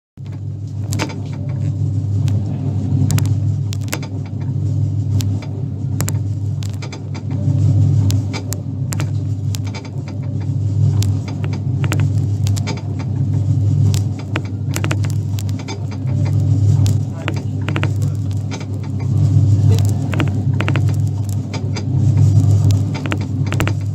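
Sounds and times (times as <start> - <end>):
kiddie ride motor hum: 0.2 - 23.9
mechanism clicks and knocks: 0.2 - 23.9.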